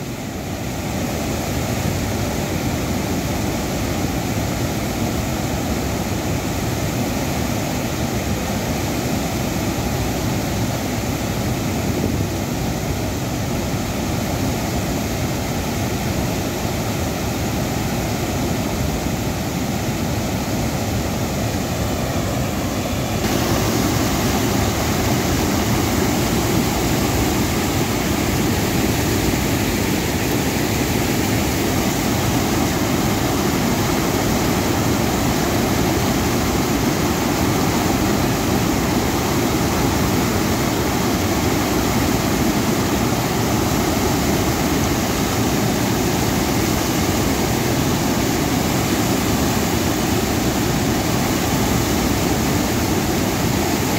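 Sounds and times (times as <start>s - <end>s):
water rushing over weir: 0.0s - 53.9s.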